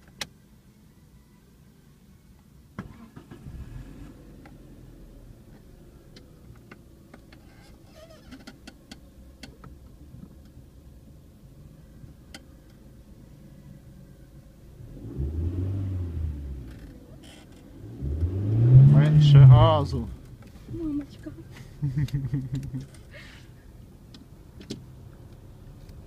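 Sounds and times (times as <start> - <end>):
car engine low rumble: 0.0 - 26.0.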